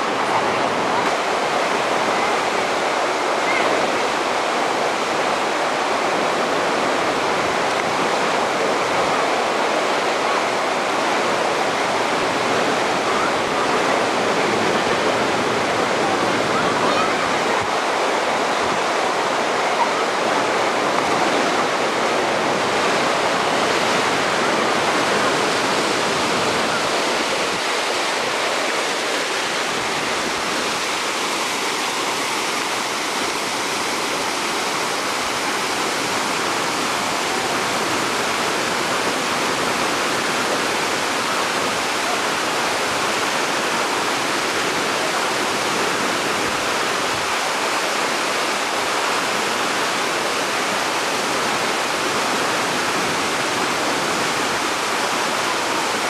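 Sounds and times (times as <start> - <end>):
waterfall rushing over rock: 0.0 - 56.0.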